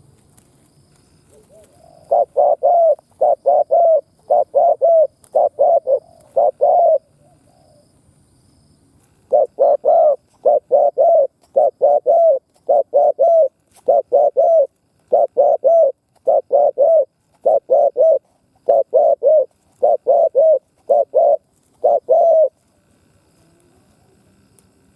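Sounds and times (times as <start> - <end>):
dove cooing: 1.2 - 8.0, 9.2 - 22.6.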